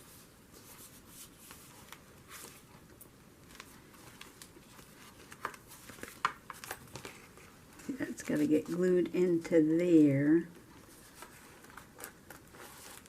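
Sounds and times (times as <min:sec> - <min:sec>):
paper rustling and ticking: 0:00.7 - 0:09.5, 0:10.6 - 0:13.0.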